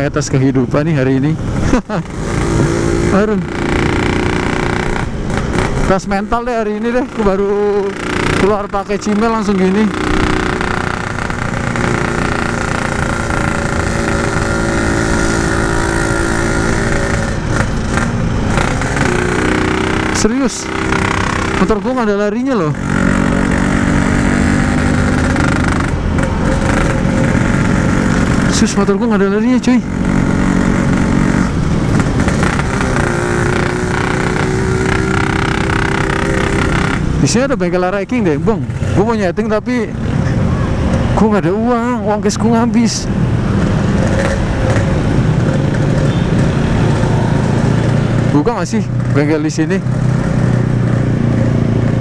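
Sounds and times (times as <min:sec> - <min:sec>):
two-stroke motorcycle engine running: 0:00.0 - 0:40.1, 0:40.7 - 0:52.0.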